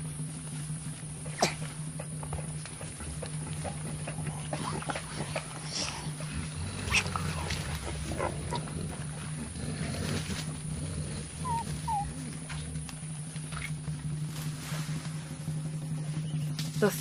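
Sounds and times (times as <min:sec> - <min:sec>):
gorillas grunting: 0:00.0 - 0:17.0
rustling vegetation: 0:00.0 - 0:17.0.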